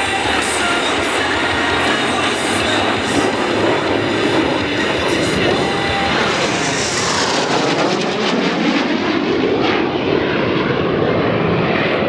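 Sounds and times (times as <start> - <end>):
jets flying overhead: 0.0 - 12.0.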